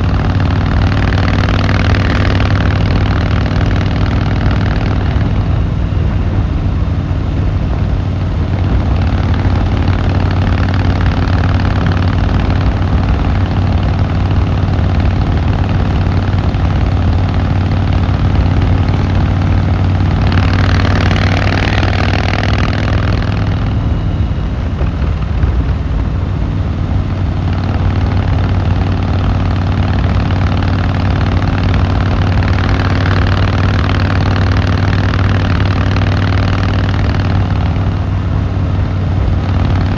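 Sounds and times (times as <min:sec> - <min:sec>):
rush of noise: 0:00.0 - 0:35.4
motorcycle engine running: 0:00.0 - 0:39.9.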